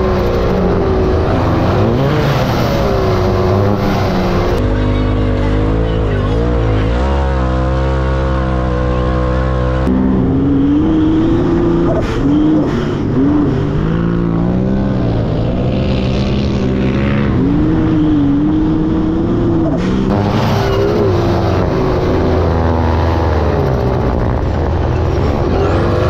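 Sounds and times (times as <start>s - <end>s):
off-road vehicle engine running: 0.0s - 26.0s
turbocharged engine revving: 0.0s - 26.0s.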